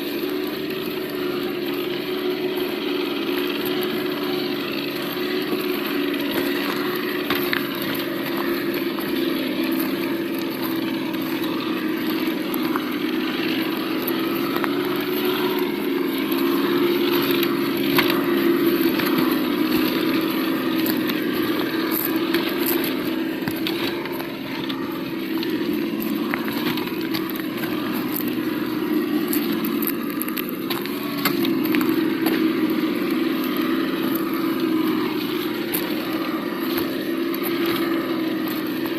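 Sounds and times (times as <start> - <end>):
simulated engine hum from speaker: 0.0 - 38.9
clicks and crackles: 5.0 - 38.9.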